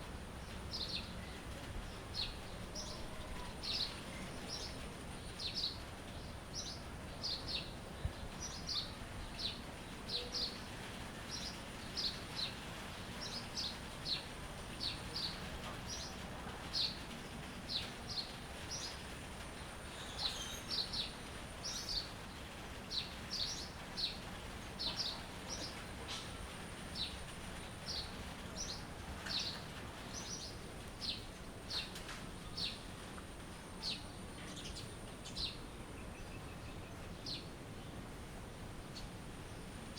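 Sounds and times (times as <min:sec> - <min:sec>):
outdoor background hiss: 0:00.0 - 0:39.9
small birds chirping: 0:00.4 - 0:38.0.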